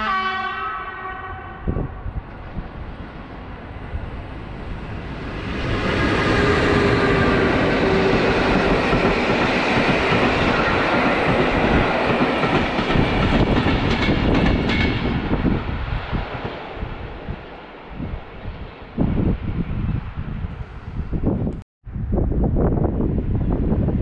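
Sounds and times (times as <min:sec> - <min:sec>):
train coaches rumbling: 0:01.6 - 0:21.4.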